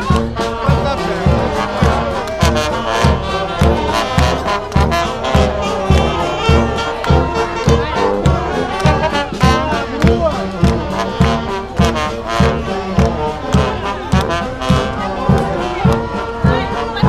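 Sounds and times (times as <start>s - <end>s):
bass drum beat: 0.0s - 17.0s
brass band playing: 0.0s - 17.0s
crowd voices: 0.0s - 17.0s.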